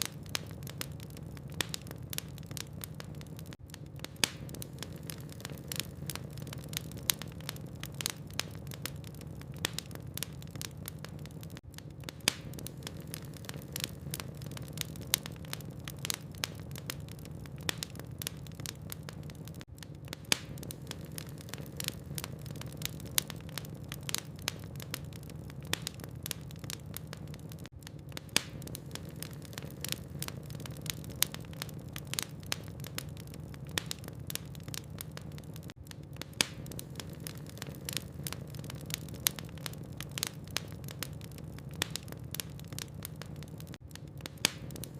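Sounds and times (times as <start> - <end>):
fire crackling and popping: 0.0 - 44.9
low rumble of fire: 0.0 - 44.9.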